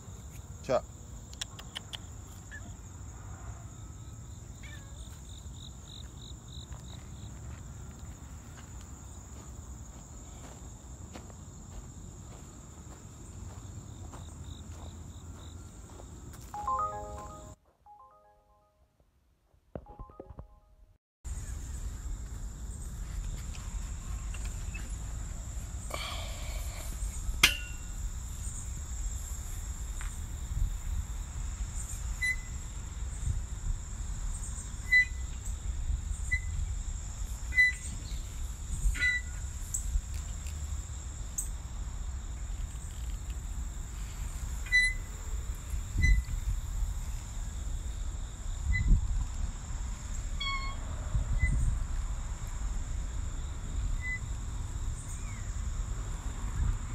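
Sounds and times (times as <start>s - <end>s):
insects chirring: 0.0s - 17.4s, 21.3s - 56.9s.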